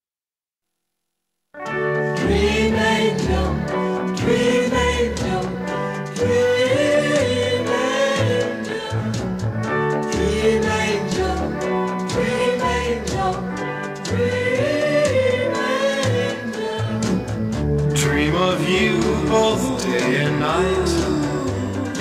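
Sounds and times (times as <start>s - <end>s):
pop ballad with orchestral backing: 1.6s - 22.0s
group of voices singing: 2.1s - 22.0s.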